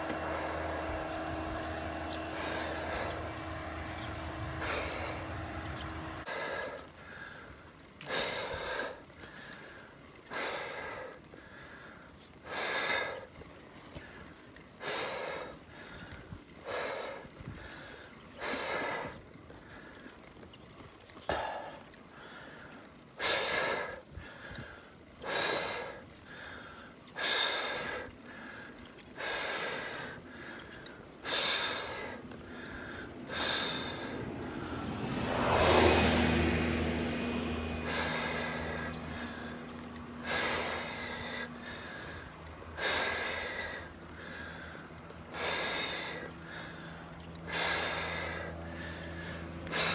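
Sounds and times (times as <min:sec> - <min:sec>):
person breathing hard: 0:00.0 - 0:13.3, 0:14.1 - 0:20.1, 0:21.3 - 0:36.3, 0:37.7 - 0:49.9.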